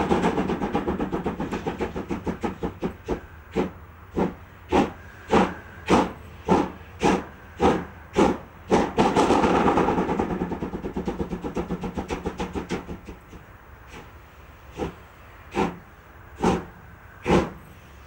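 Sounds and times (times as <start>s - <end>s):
steam locomotive exhaust chuffing: 0.0s - 18.0s.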